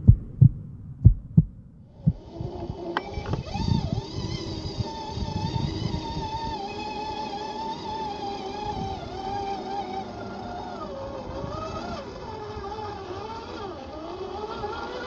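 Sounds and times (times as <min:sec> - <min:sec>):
rc car electric motor whine: 0:01.9 - 0:15.0.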